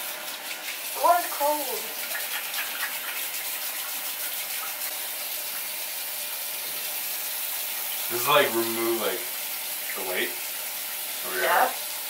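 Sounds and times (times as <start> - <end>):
running water pouring: 0.0 - 12.0.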